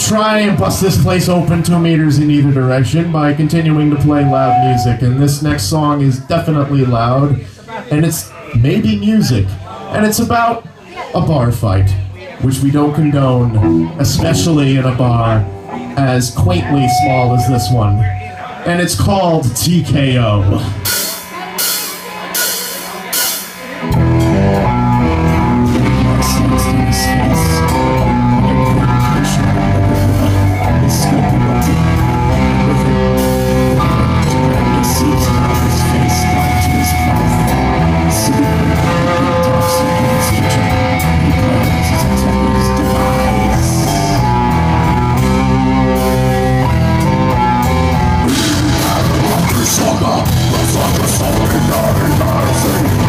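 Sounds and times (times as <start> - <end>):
rock band playing loud: 0.0 - 6.8, 12.9 - 19.1, 19.8 - 53.0.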